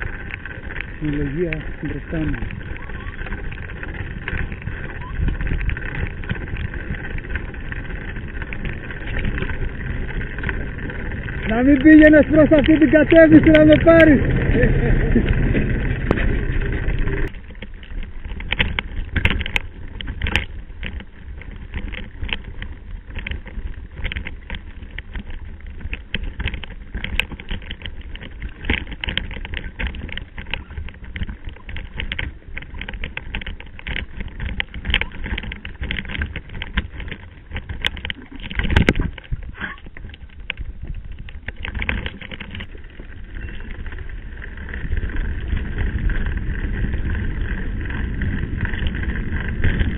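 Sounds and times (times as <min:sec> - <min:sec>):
bike rattling over stones: 0:00.0 - 0:49.9
tyre and wind rumble: 0:00.0 - 0:49.9.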